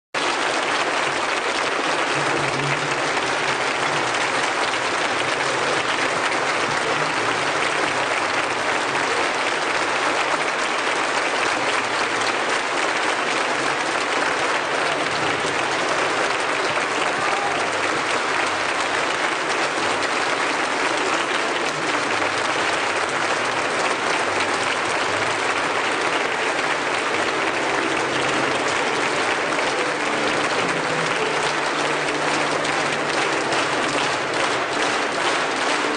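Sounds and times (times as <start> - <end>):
audience applauding: 0.2 - 35.9.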